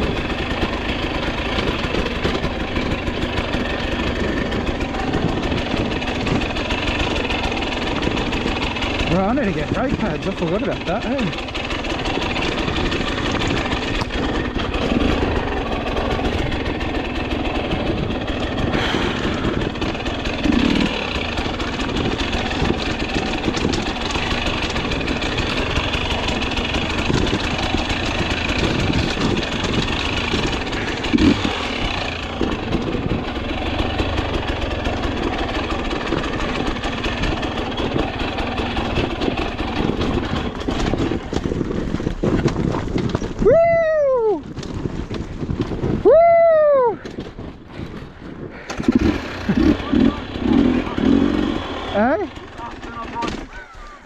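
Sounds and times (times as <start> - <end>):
dirt bike engine revving: 0.0 - 42.9, 48.5 - 54.0.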